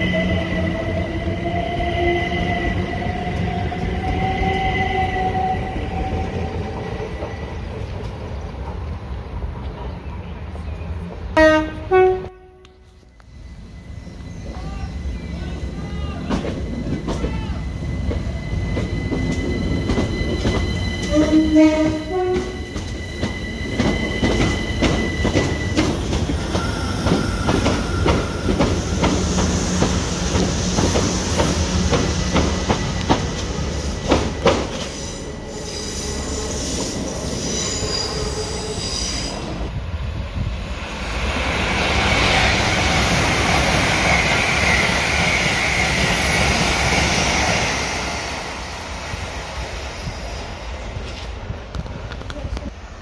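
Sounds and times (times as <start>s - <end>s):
train running rush: 0.0s - 53.0s.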